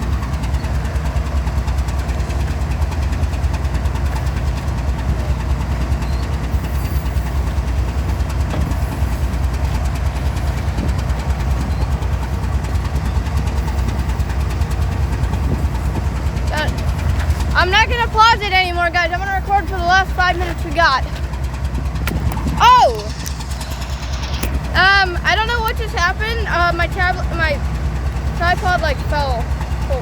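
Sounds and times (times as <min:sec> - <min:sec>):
locomotive engine idling: 0:00.0 - 0:30.0.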